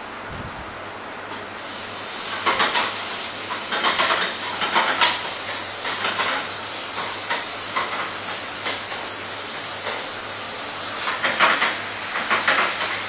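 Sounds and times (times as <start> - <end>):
food sizzling in a pan: 1.5 - 13.0.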